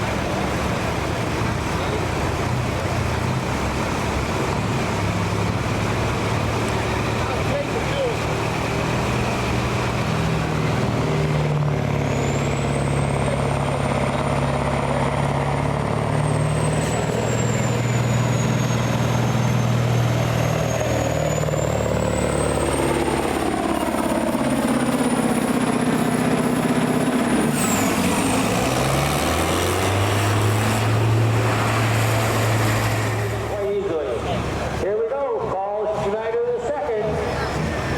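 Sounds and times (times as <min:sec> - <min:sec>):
loud vehicle engine running: 0:00.0 - 0:37.9.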